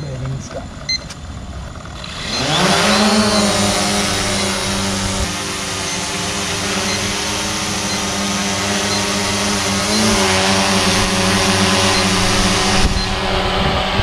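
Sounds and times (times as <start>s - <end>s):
drone propellers buzzing whine: 0.0s - 14.0s.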